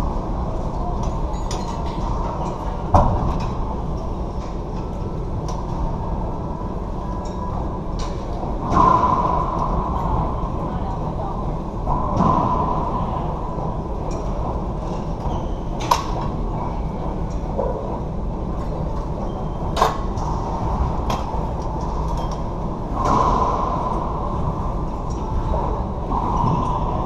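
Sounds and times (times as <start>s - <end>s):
background hum: 0.0s - 27.0s.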